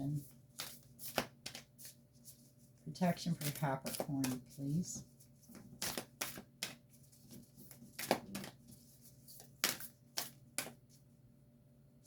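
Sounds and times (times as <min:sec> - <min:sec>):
cards being shuffled by hand: 0:00.2 - 0:11.1.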